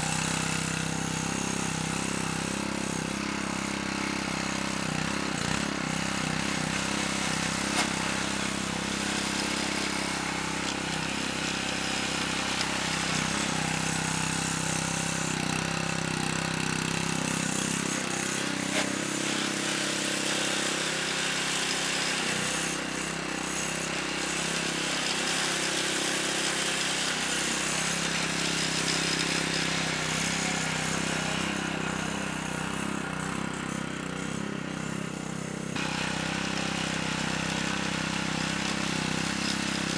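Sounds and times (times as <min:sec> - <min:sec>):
lawnmower engine drone: 0:00.0 - 0:39.9.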